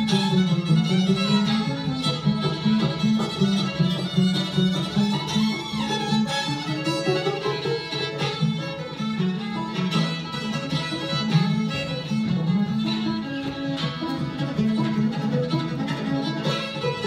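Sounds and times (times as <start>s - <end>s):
bowed fiddle melody: 0.0s - 17.0s
plucked banjo: 0.0s - 17.0s.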